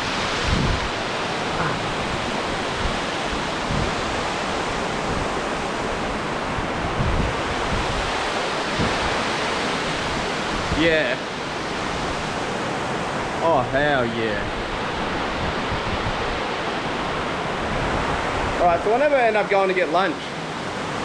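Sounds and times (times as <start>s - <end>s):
wind on microphone: 0.0s - 18.7s
rushing water: 0.0s - 21.0s.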